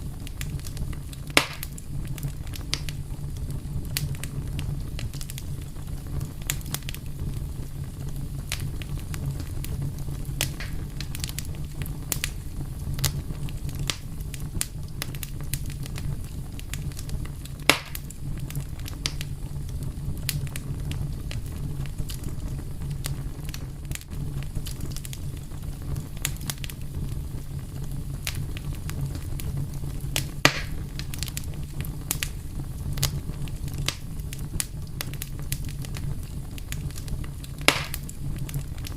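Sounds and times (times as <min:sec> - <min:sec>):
loud fire pops: 0:00.0 - 0:38.9
wood fire crackling: 0:00.0 - 0:38.9.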